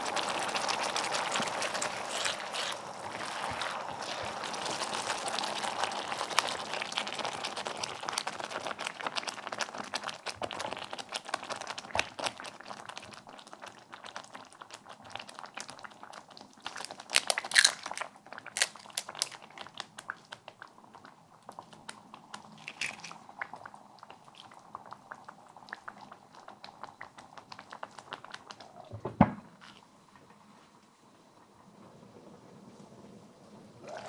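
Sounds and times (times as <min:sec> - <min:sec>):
sauce bubbles popping: 0:00.0 - 0:30.0, 0:33.8 - 0:34.0.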